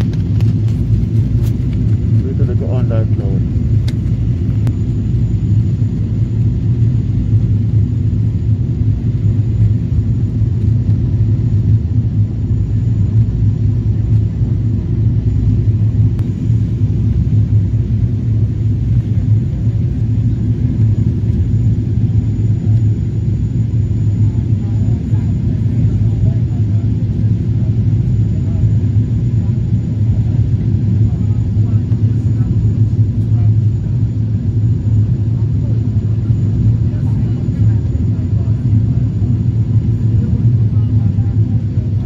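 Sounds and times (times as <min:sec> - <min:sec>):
aircraft cabin engine rumble: 0:00.0 - 0:42.0.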